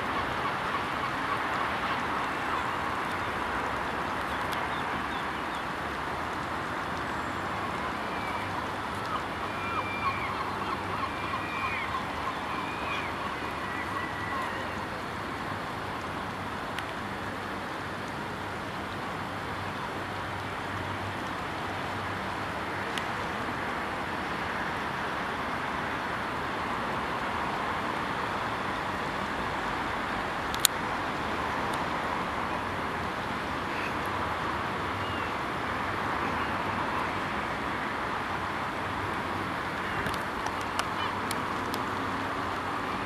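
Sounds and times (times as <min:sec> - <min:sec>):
distant city traffic hum: 0:00.0 - 0:43.0.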